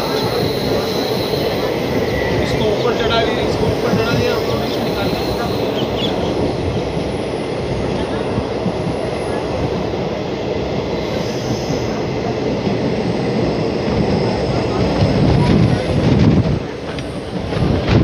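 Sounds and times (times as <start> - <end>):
rushing wind: 0.0 - 18.0
train wheels rumbling on rail: 0.0 - 18.0.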